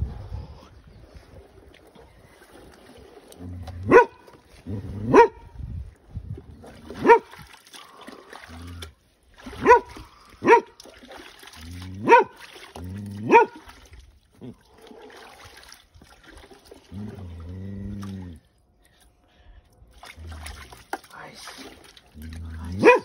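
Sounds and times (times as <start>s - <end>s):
water splashing: 1.0s - 5.3s, 6.3s - 19.1s, 19.7s - 23.0s.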